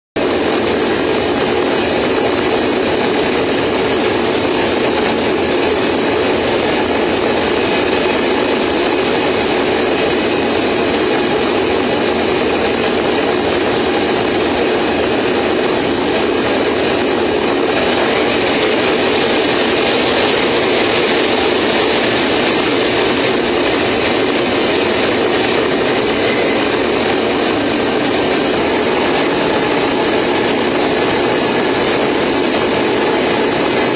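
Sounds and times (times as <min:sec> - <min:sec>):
jet engines roaring: 0:00.2 - 0:33.9
rushing air: 0:00.2 - 0:33.9.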